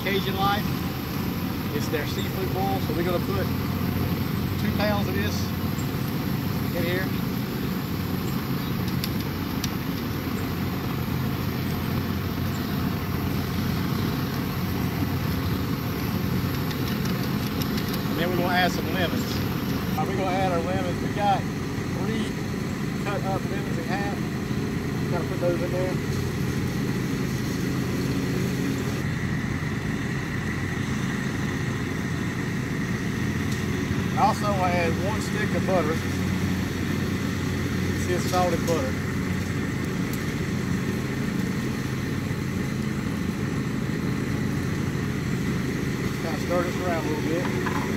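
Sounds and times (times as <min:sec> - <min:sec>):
gas burner rushing: 0:00.0 - 0:47.9.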